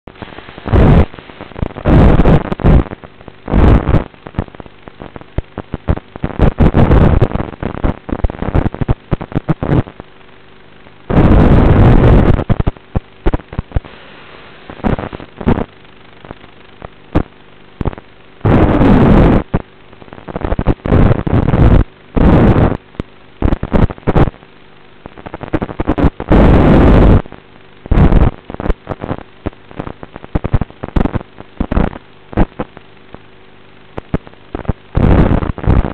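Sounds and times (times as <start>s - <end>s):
harsh static bursts: 0.1s - 35.9s
soft hiss: 0.1s - 35.9s.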